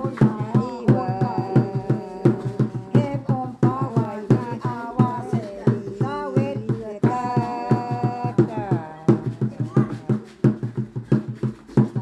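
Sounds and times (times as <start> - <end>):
voices singing: 0.0 - 10.4
steady drum beat: 0.0 - 12.0.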